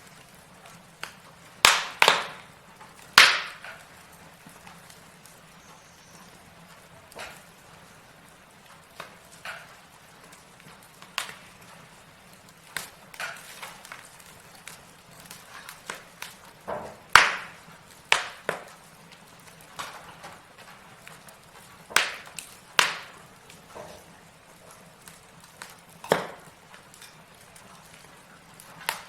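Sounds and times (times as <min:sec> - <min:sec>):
logs crackling in fireplace: 0:00.0 - 0:29.0.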